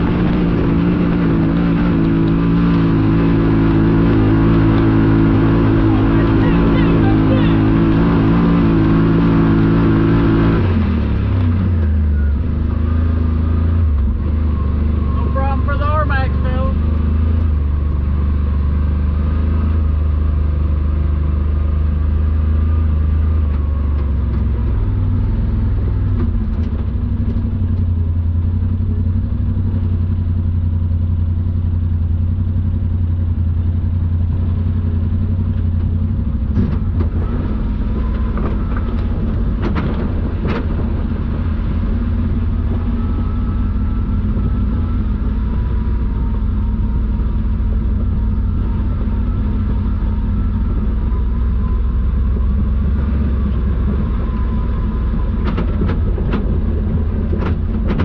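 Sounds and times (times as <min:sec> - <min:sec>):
utv engine running: 0:00.0 - 0:58.0.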